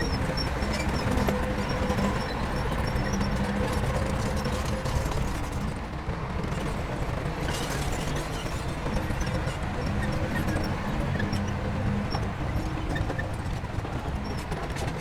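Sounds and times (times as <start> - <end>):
heavy diesel engine droning: 0.0 - 5.9, 8.8 - 15.0.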